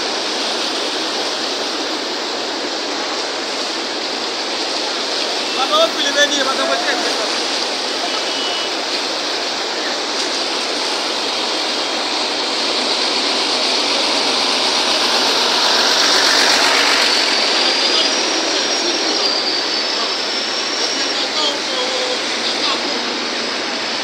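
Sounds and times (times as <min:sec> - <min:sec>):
vehicle engine noise: 0:00.0 - 0:24.0
vehicles driving through floodwater: 0:00.0 - 0:24.0.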